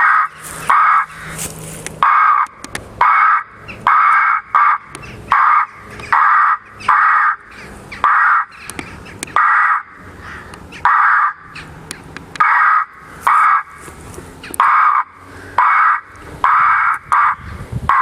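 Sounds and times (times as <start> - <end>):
recorded crow distress calls: 0.0 - 11.8, 12.4 - 18.0.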